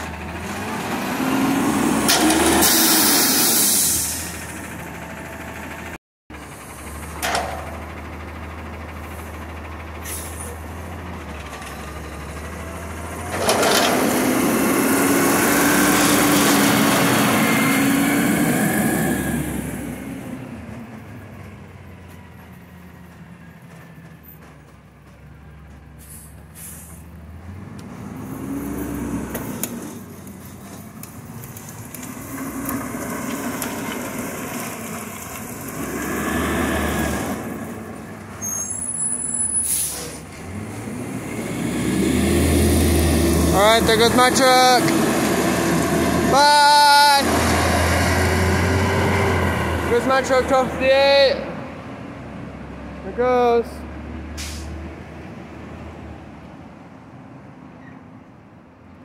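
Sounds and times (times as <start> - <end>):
diesel truck engine revving: 0.0 - 22.4, 25.6 - 56.4.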